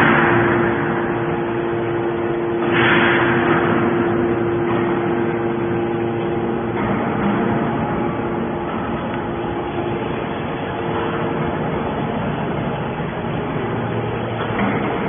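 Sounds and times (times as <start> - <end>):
hydraulic pump humming: 0.0 - 15.0.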